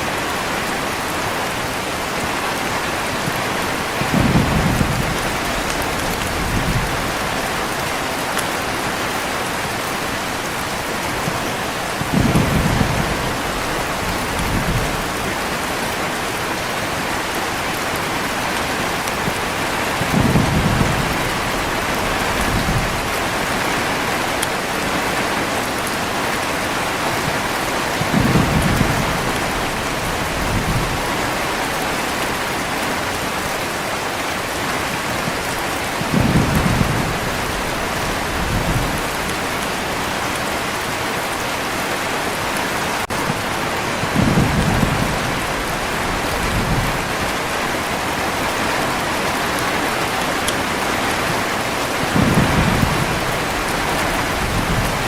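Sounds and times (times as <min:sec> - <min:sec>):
low thunder rumbling: 0:00.0 - 0:09.2, 0:09.8 - 0:26.0, 0:26.7 - 0:32.4, 0:35.4 - 0:40.8, 0:43.1 - 0:55.0
heavy rain falling: 0:00.0 - 0:55.0.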